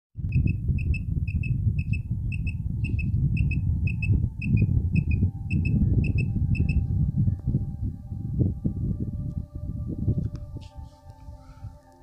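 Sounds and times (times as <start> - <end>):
loud low rumble: 0.2 - 10.8.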